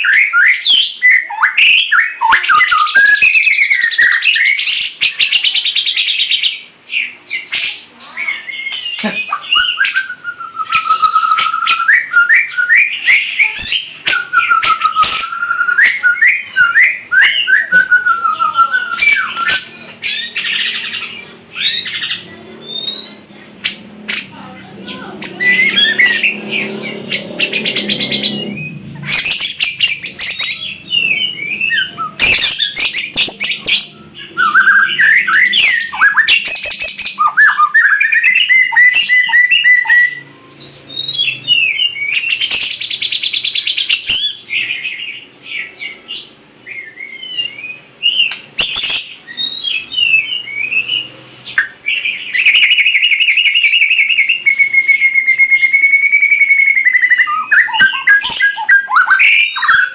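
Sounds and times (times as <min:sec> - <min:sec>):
songbird singing trills: 0:00.0 - 0:59.9.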